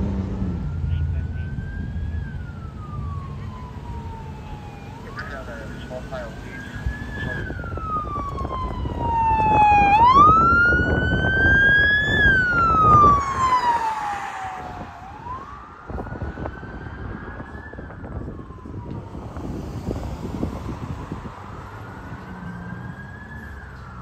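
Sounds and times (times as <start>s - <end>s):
police siren wailing: 0.0s - 24.0s
vehicle engine and tyre noise: 0.0s - 24.0s.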